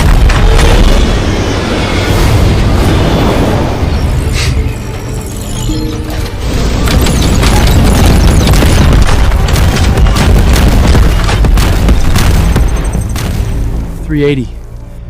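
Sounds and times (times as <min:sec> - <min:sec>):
heavy booming blasts and impacts: 0:00.0 - 0:05.2, 0:06.3 - 0:14.7
dramatic soundtrack music: 0:00.0 - 0:15.0.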